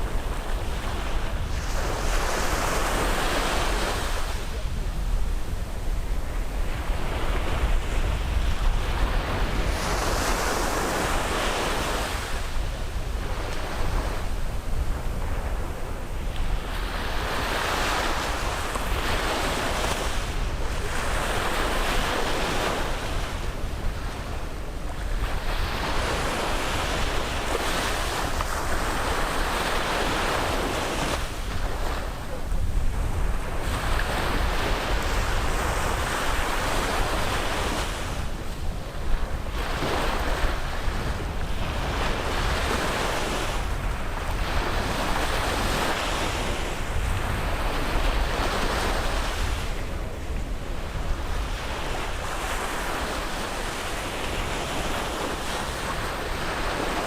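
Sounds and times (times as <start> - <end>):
sea waves breaking on a beach: 0.0 - 57.0.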